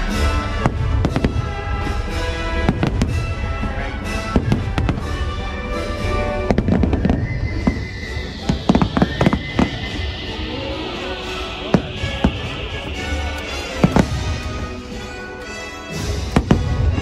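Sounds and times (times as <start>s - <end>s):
fireworks bursting with bangs: 0.0s - 17.0s
loud show music: 0.0s - 17.0s.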